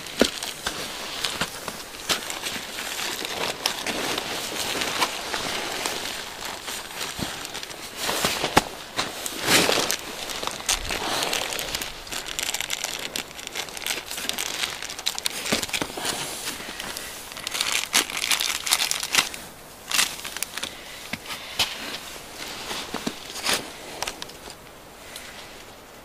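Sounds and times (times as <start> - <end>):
plastic wrapping crinkling: 0.0 - 24.6
gear rustling in a pack: 0.0 - 25.7.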